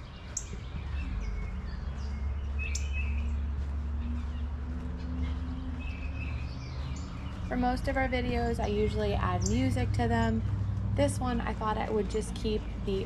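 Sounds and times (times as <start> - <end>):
birds chirping: 0.0 - 13.0
distant motor drone: 0.0 - 13.0.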